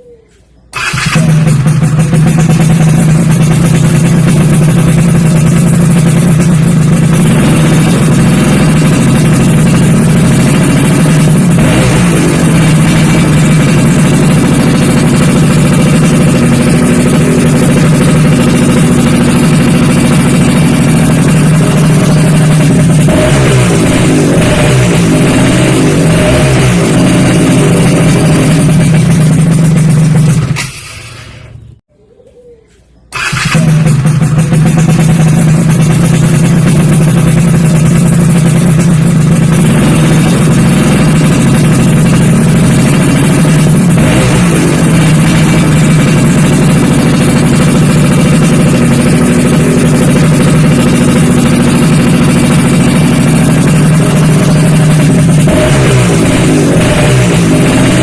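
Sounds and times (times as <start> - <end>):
two-stroke engine exhaust note: 0.7 - 31.8, 33.1 - 58.0.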